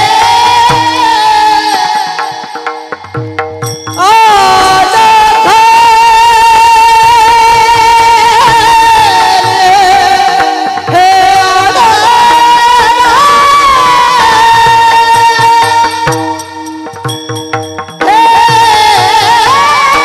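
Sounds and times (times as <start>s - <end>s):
man singing: 0.0s - 3.0s, 4.0s - 17.0s, 18.0s - 20.0s
instrumental accompaniment: 0.0s - 20.0s.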